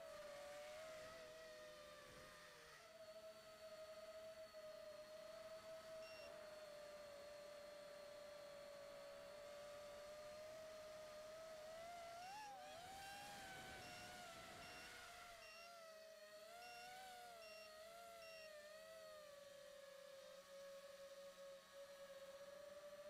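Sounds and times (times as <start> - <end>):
quadcopter motors whining: 0.1 - 20.2.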